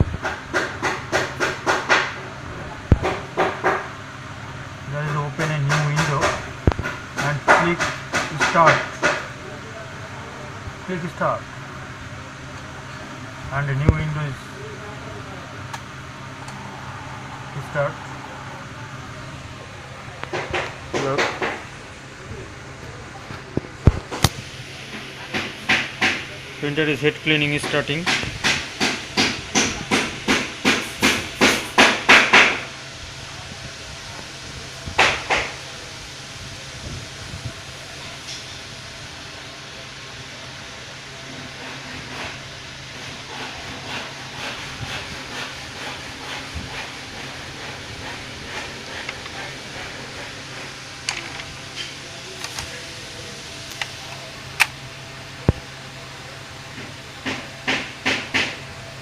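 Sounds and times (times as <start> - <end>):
printer low hum: 0.0 - 30.4, 32.7 - 59.0.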